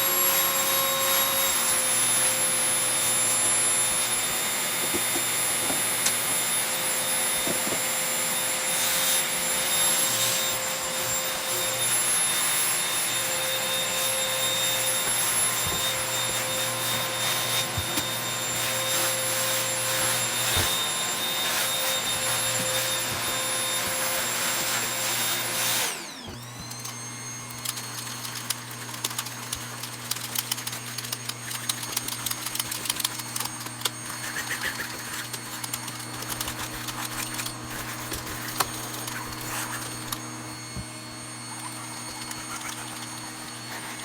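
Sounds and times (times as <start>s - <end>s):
vacuum cleaner whine: 0.0s - 44.0s.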